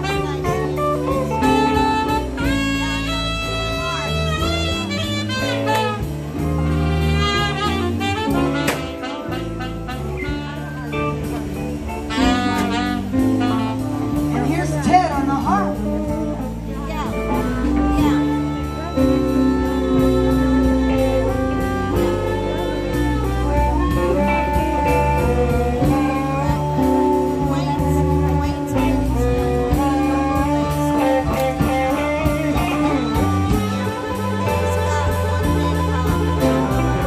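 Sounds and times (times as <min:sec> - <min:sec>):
live blues band playing: 0:00.0 - 0:37.0.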